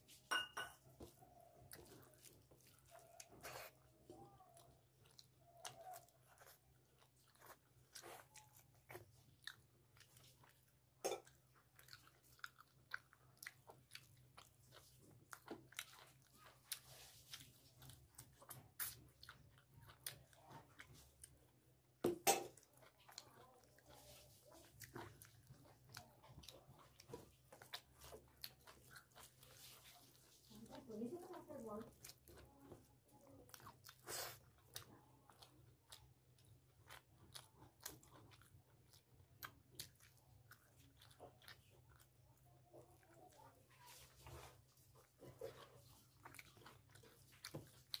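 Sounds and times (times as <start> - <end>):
man chewing food: 0.0 - 48.0.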